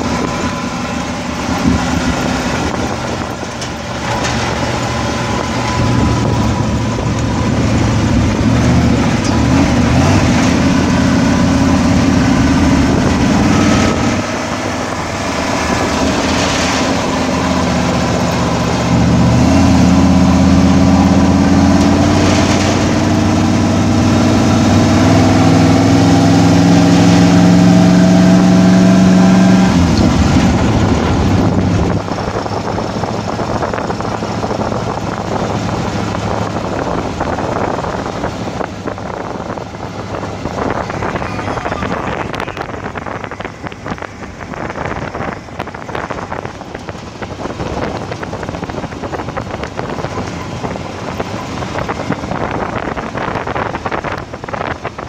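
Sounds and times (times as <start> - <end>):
vehicle engine pulling: 0.0 - 55.0
wind: 0.0 - 55.0.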